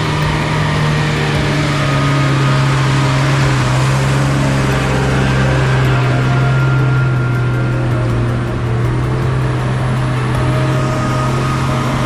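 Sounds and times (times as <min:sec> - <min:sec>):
bus passing close: 0:00.0 - 0:12.0
vehicle engine running: 0:00.0 - 0:12.0.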